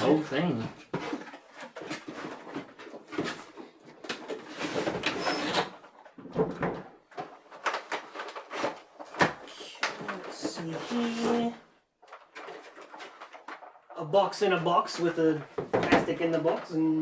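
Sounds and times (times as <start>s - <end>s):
packaging rustling and scraping: 0.0s - 16.8s.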